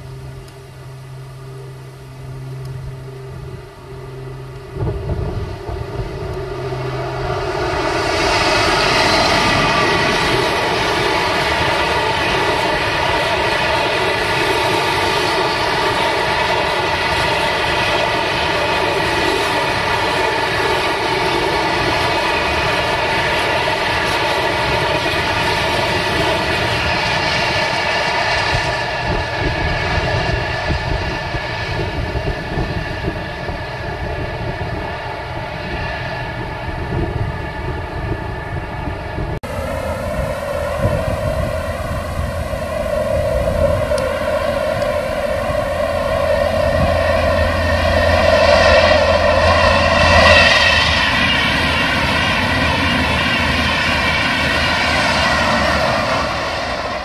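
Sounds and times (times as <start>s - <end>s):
diesel locomotive engine droning: 0.0s - 57.0s.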